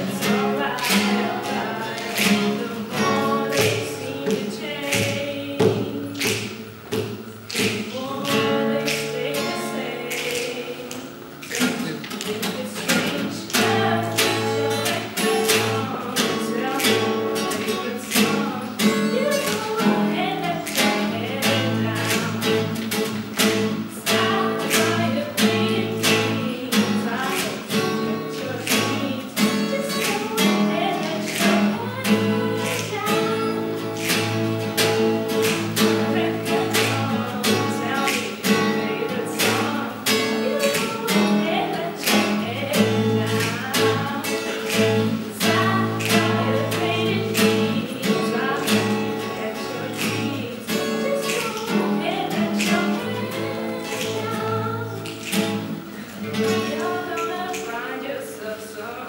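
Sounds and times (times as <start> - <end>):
woman singing: 0.0 - 6.8, 7.5 - 59.0
acoustic guitar strumming: 0.0 - 59.0.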